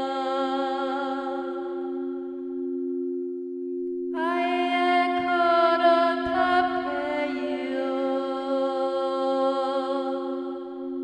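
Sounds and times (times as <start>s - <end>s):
person chanting long held notes: 0.0s - 2.4s, 4.2s - 11.0s.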